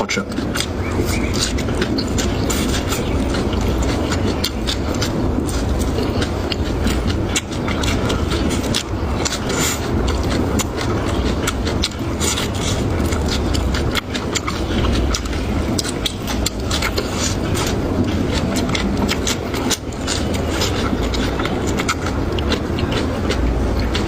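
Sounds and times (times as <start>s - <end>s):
chewing and crunching food: 0.0s - 24.0s
steady low rumble: 0.0s - 24.0s.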